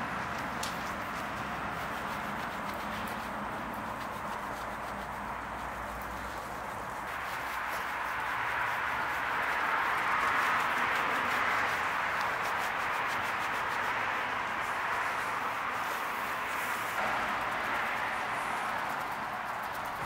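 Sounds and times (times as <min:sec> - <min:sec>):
clay mitt rasping on car hood: 0:00.2 - 0:20.0.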